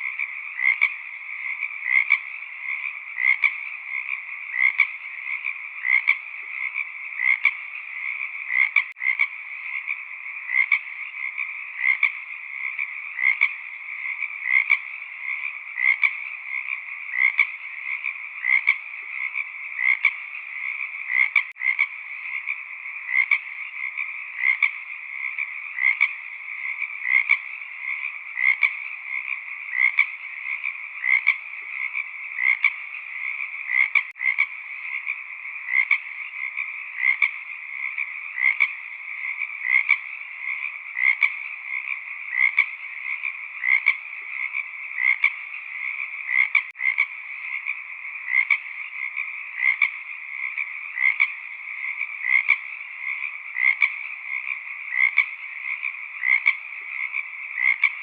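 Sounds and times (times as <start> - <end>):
frogs calling: 0.0 - 58.0.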